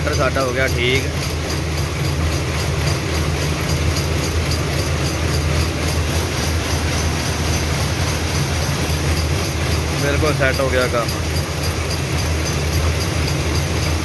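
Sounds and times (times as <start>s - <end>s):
deep machine hum: 0.0s - 14.0s
power looms clattering: 0.0s - 14.0s.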